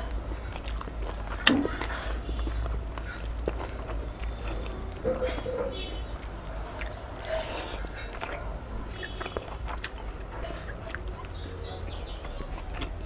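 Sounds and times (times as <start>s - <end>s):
mouth clicks: 0.0s - 13.0s
person chewing food: 0.0s - 13.0s.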